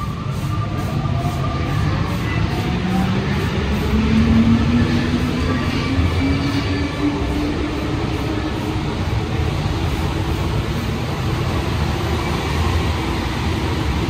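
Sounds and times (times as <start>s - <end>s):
metro car rumbling in motion: 0.0s - 14.0s.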